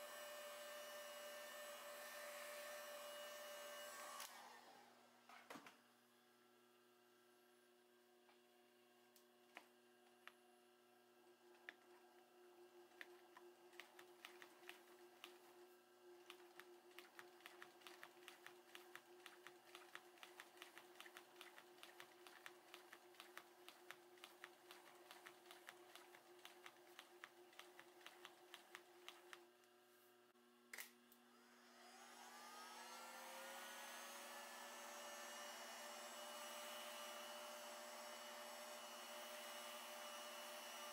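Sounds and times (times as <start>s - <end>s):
faint motor hum: 0.0s - 40.9s.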